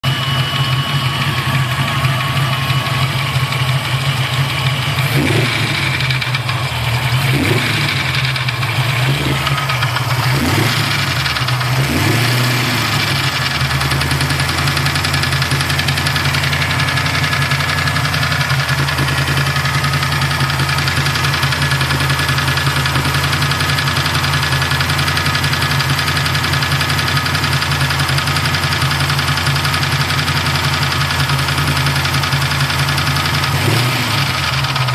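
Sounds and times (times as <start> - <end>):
car engine revving and idling: 0.0 - 34.9
engine tapping: 0.0 - 34.9.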